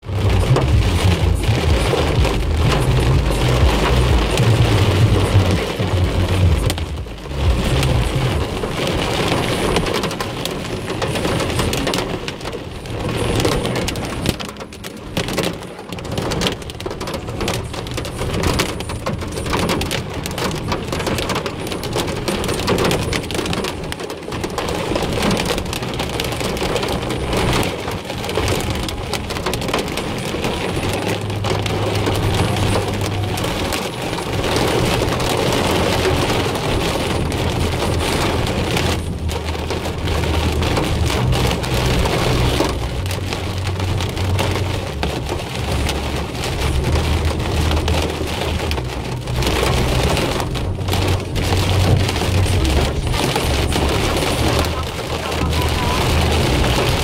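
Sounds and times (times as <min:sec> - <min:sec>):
car engine and tyres hum: 0:00.0 - 0:57.0
heavy rain drumming on car: 0:00.0 - 0:57.0.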